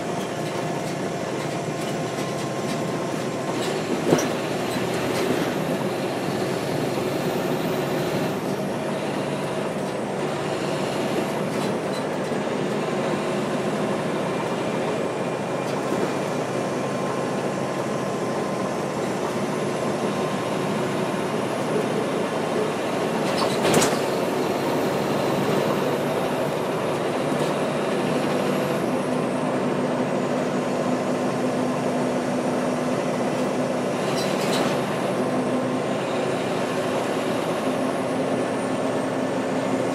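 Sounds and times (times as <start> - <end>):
bus diesel engine running: 0.0 - 39.9
road noise and rattles: 0.0 - 39.9.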